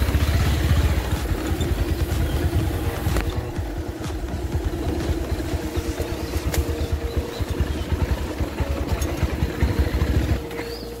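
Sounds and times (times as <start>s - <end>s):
motorcycle engine chugging: 0.0s - 11.0s.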